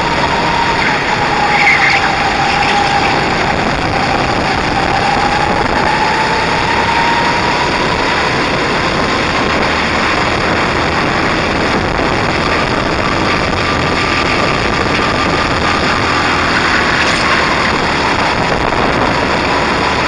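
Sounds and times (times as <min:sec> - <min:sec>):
kart engine whine: 0:00.0 - 0:20.0
loud rush of noise: 0:00.0 - 0:20.0.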